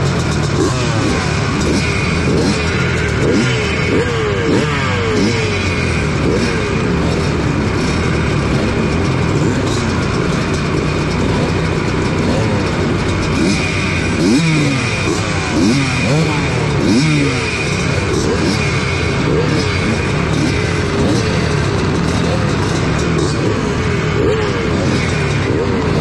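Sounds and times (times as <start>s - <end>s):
motocross bikes revving: 0.0s - 26.0s.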